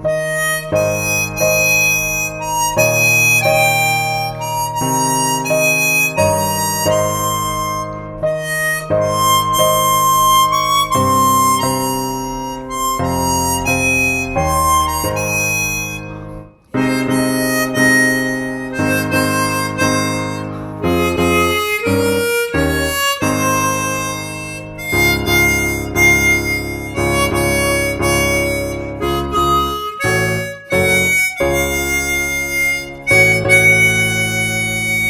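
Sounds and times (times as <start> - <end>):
harmonica playing slow classical piece: 0.0 - 35.0.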